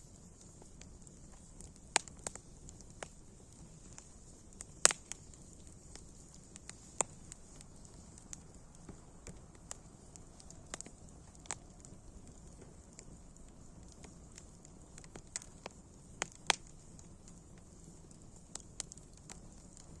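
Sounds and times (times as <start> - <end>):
faint steady hiss: 0.0 - 20.0
wood fire crackling: 0.0 - 20.0.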